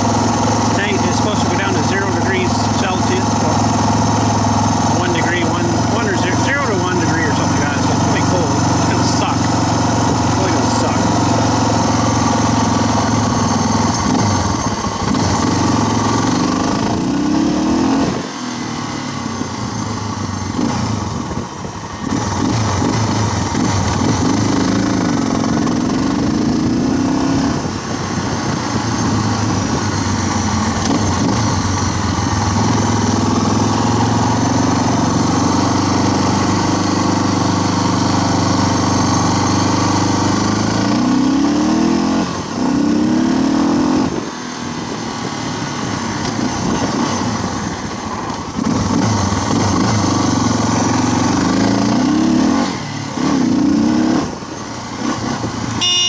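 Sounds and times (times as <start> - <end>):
dirt bike engine accelerating: 0.0 - 56.0.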